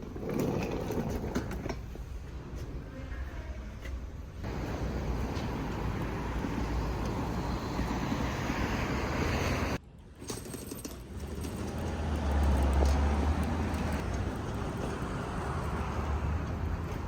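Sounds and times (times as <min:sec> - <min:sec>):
vehicle and road noise rumble: 0:00.0 - 0:17.0.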